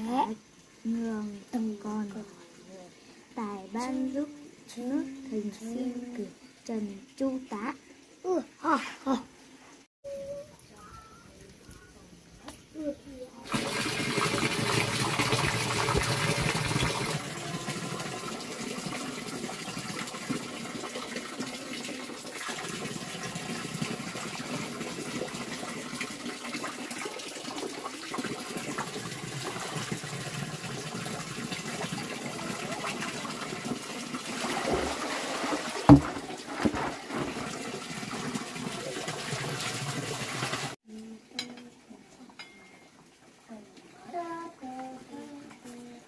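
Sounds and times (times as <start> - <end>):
running water: 0.0 - 46.0.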